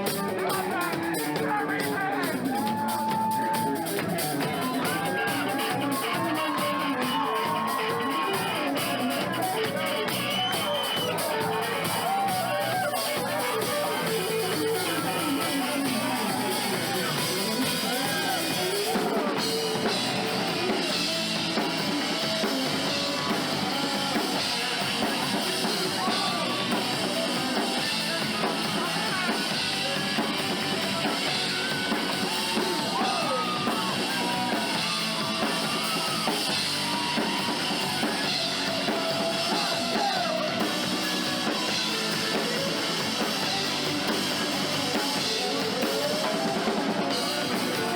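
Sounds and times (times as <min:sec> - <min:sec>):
drum kit beat: 0:00.0 - 0:47.9
rock band playing live: 0:00.0 - 0:47.9.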